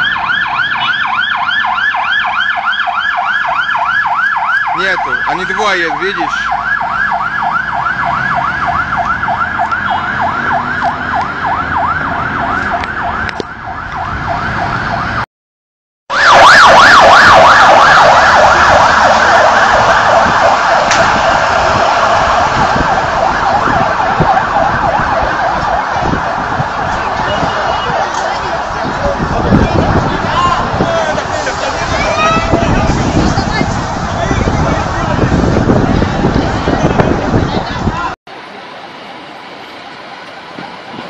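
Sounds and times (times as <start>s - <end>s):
fire engine siren yelp: 0.0s - 15.2s, 16.1s - 41.0s.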